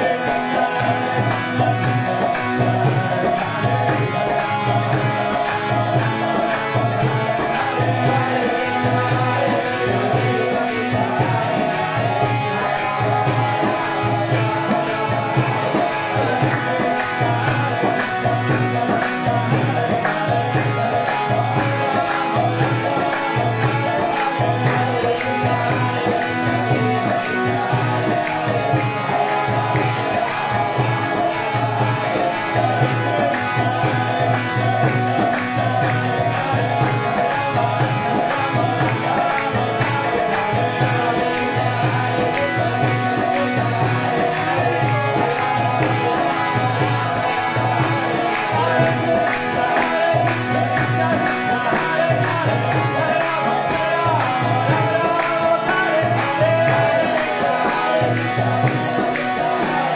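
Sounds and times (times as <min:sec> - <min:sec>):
instrumental accompaniment: 0:00.0 - 0:59.9
jingling percussion beat: 0:00.0 - 0:59.9
man singing devotional chant: 0:00.0 - 0:59.9.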